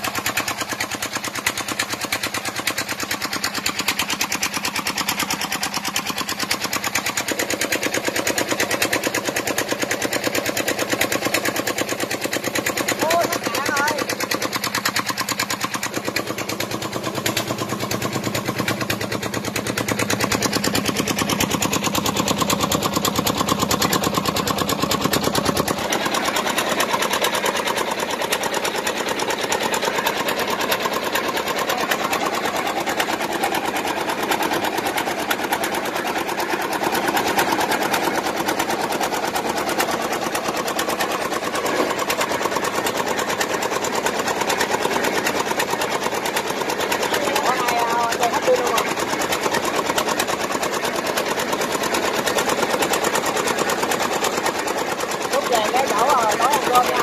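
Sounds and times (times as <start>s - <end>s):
boat diesel engine knocking: 0.0s - 57.0s.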